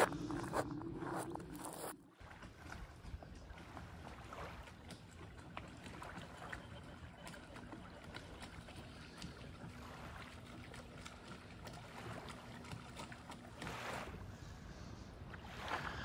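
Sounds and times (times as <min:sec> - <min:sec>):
faint ticks and splashes: 0:01.2 - 0:15.6
small waves lapping shore: 0:01.7 - 0:16.0.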